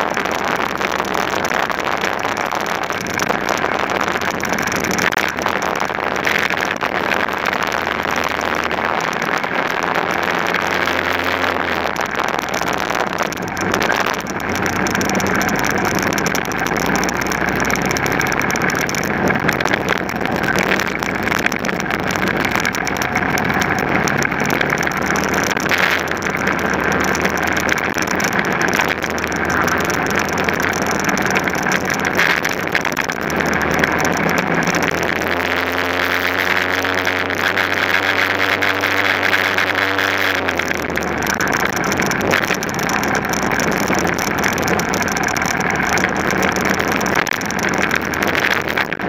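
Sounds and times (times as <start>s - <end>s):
kart engine running at speed: 0.0s - 49.0s
wind noise: 0.0s - 49.0s.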